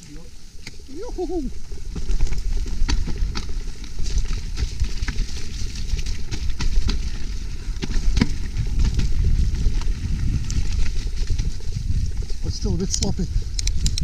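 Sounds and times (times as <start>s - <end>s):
bike tyres rumbling over ground: 0.0s - 14.0s
bike chain and frame rattling: 1.0s - 14.0s.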